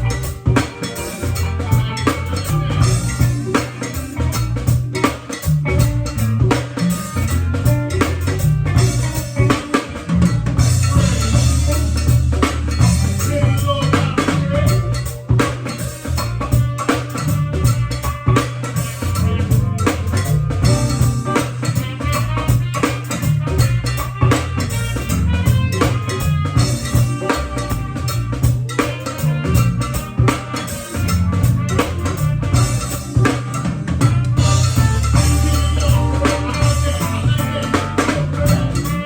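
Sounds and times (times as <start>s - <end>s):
band music: 0.0s - 39.0s
drum kit steady beat: 0.0s - 39.0s
heavy bass line: 0.0s - 39.0s.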